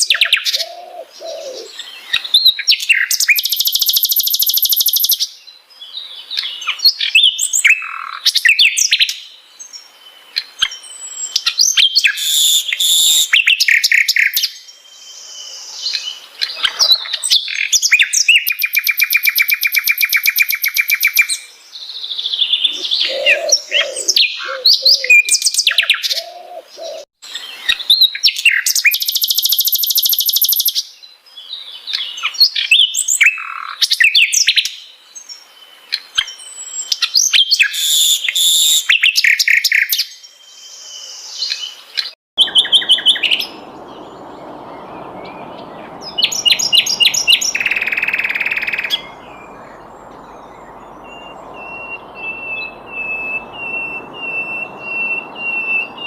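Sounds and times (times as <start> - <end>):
bird singing chirps and trills: 0.0 - 56.0.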